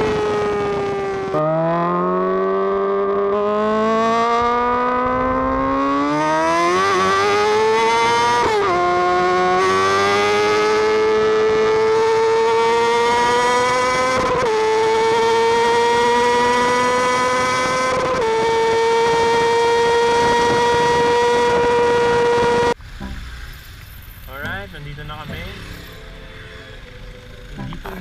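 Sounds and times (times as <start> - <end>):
vehicle engine accelerating: 0.0 - 28.0.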